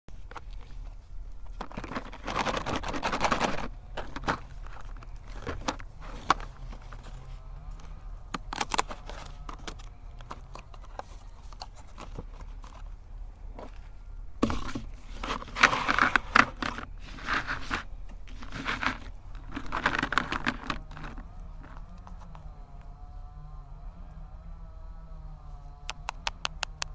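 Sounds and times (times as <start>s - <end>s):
grinder clicks and scraping: 0.1s - 23.6s, 25.5s - 26.9s
cookies crunching in a grinder: 0.2s - 26.9s.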